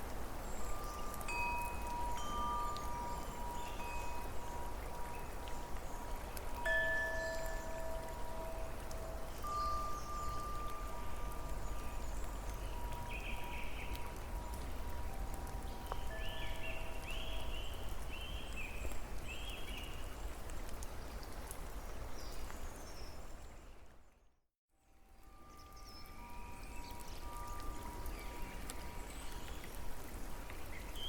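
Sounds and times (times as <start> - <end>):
steady rain: 0.0 - 24.1, 25.0 - 31.0.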